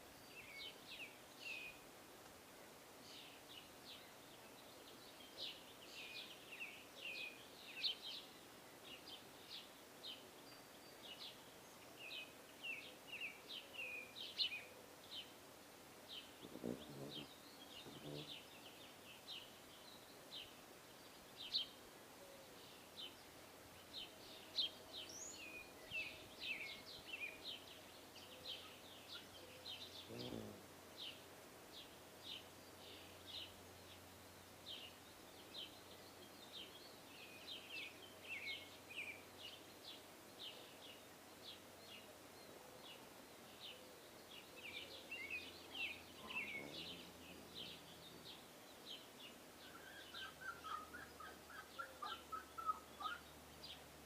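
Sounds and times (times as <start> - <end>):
small birds chirping faintly: 0.0 - 54.0.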